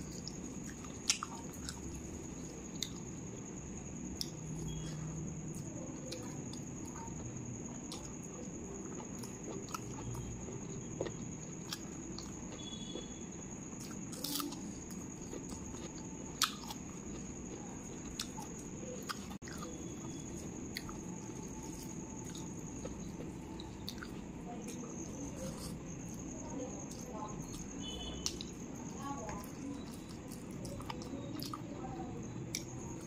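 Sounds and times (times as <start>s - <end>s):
chewing with mouth clicks: 0.0s - 3.2s, 4.0s - 33.0s.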